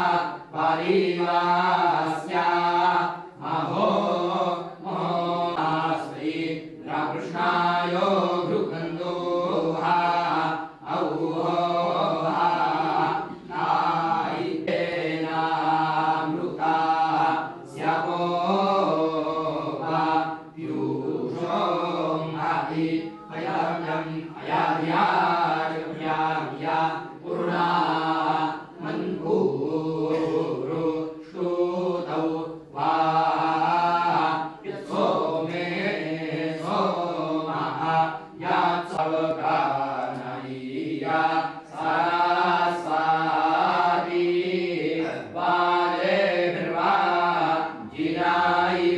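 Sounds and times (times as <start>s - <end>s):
men chanting devotional melody: 0.0s - 48.9s.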